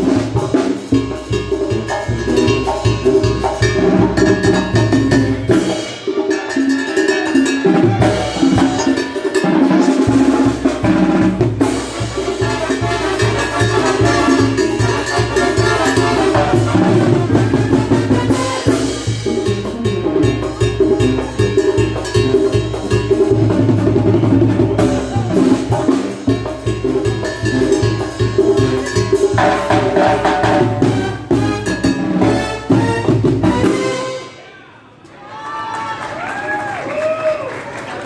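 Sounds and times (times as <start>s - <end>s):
drum kit and percussion beat: 0.0s - 34.4s
live band playing dance music: 0.0s - 34.5s.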